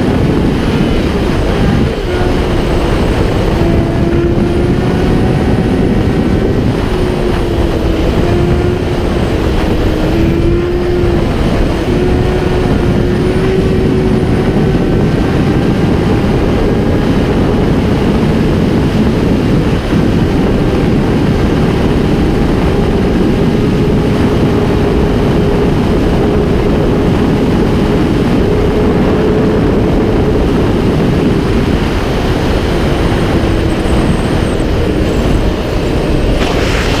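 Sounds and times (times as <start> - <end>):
motorcycle engine cruising: 0.0 - 37.0
wind rushing over microphone: 0.0 - 37.0.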